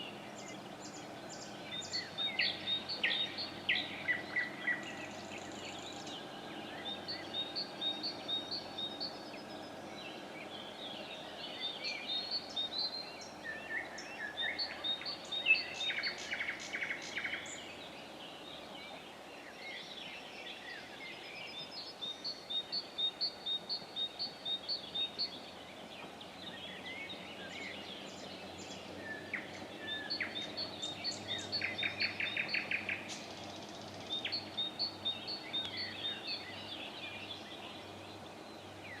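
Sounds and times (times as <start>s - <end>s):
faint steady low hum: 0.0s - 39.0s
songbirds chirping: 0.0s - 39.0s.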